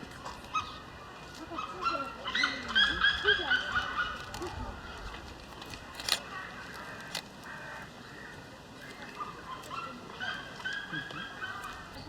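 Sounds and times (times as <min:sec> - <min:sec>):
zoo background sound: 0:00.1 - 0:12.0.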